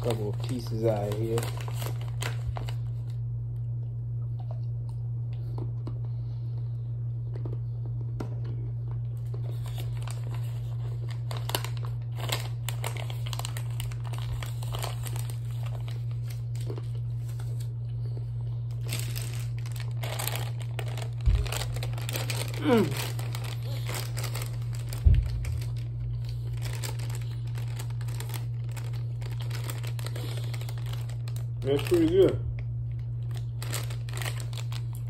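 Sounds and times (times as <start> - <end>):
plastic snack bag crinkling: 0.0 - 3.2, 8.7 - 35.0
steady low hum: 0.0 - 35.0.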